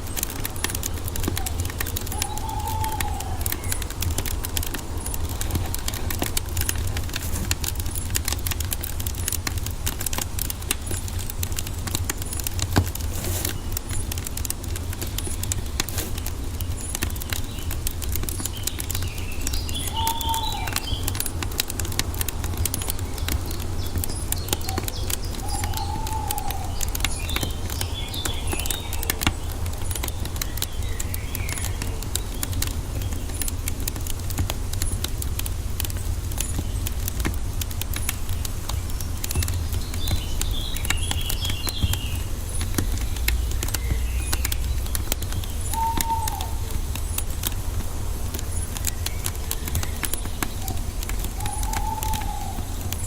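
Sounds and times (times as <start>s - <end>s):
birds twittering: 0.0s - 53.0s
wood fire crackling: 0.0s - 53.0s.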